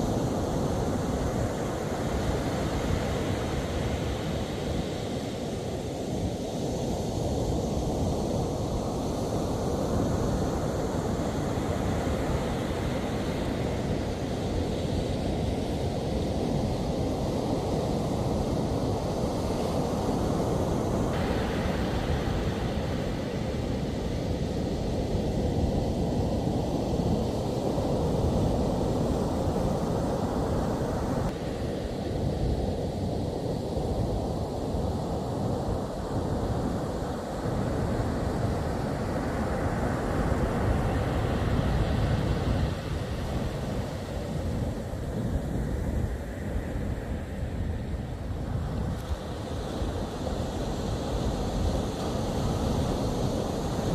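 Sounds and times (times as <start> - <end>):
ocean surf: 0.0 - 53.9
wind buffeting the microphone: 0.0 - 53.9.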